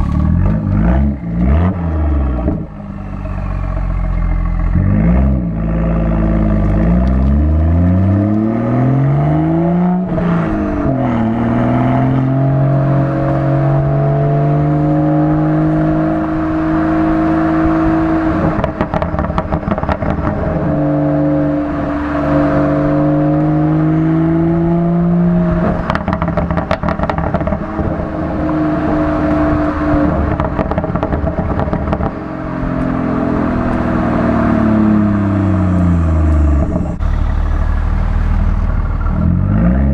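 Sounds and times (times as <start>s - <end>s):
car engine accelerating: 0.0s - 39.9s
exhaust crackling: 0.0s - 39.9s.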